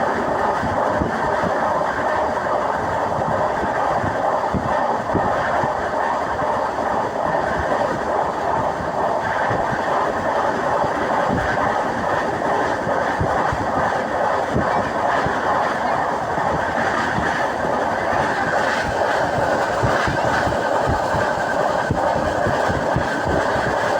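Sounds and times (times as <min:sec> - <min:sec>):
train rumbling inside carriage: 0:00.0 - 0:23.9.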